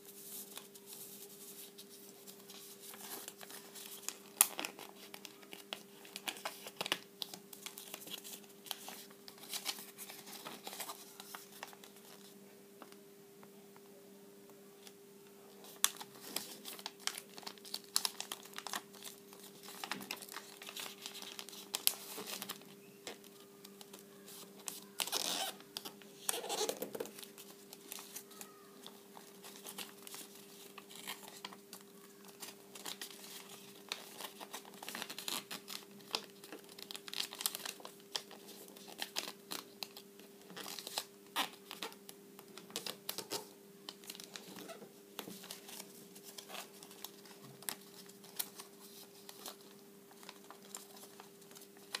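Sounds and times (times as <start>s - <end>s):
paper rustling and crinkling: 0.0s - 13.0s, 15.6s - 52.0s.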